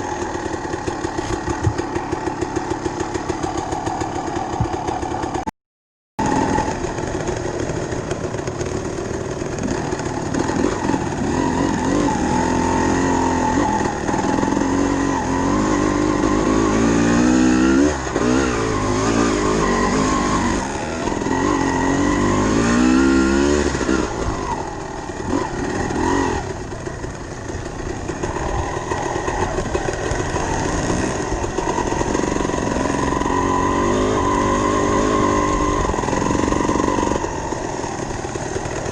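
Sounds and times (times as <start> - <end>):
dirt bike engine revving: 0.0 - 5.5, 6.2 - 38.9.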